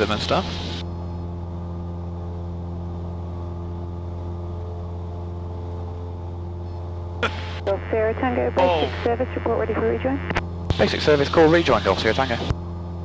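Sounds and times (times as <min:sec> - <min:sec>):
plane engine and propeller droning: 0:00.0 - 0:13.0.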